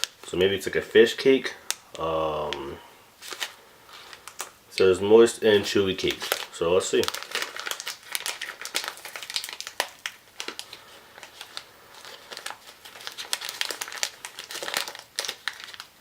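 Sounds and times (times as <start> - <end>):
wrapper crinkling: 0.0 - 16.0.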